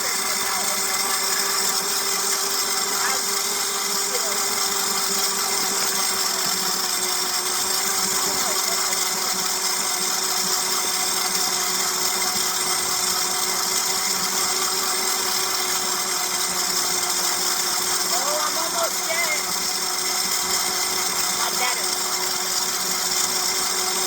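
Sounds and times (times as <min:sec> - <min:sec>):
electric bike motor whining: 0:00.0 - 0:24.0.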